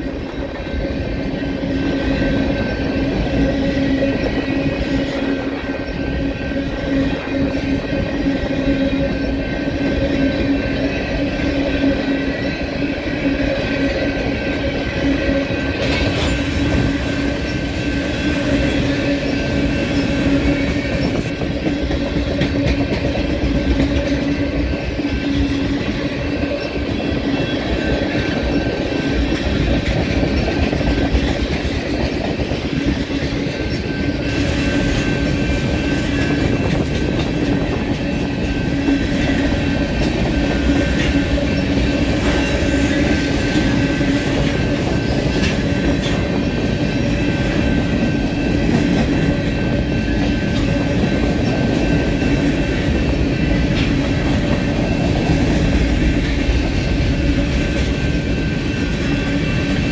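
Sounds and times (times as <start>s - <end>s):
freight train wheels rumbling: 0.0s - 59.9s
steady ringing tones: 0.0s - 59.9s.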